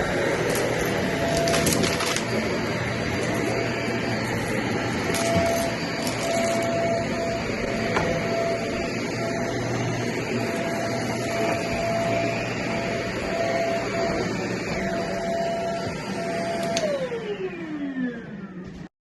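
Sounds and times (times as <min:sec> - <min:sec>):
vacuum cleaner motor whining: 0:00.0 - 0:18.9.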